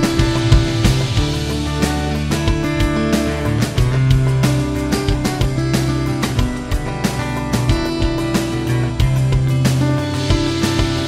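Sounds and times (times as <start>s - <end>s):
guitar-led instrumental music: 0.0s - 11.0s.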